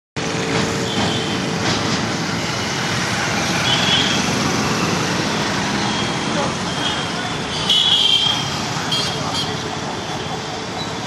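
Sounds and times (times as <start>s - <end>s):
street traffic passing: 0.2s - 11.0s.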